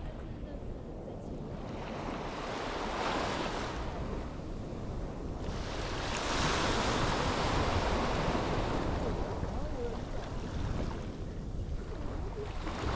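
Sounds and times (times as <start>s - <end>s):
sea waves breaking: 0.0s - 12.9s
wind rumbling on microphone: 0.0s - 12.9s.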